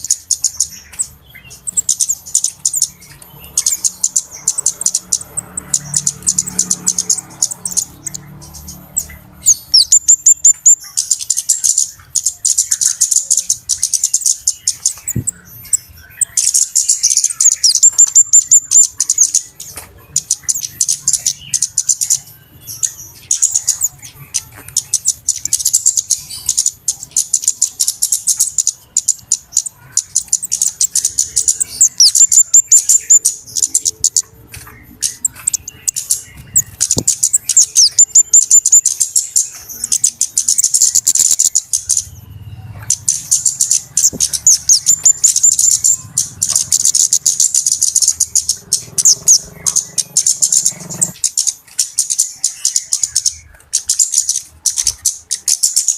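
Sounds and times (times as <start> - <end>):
small birds chipping and trilling: 0.0 - 55.9.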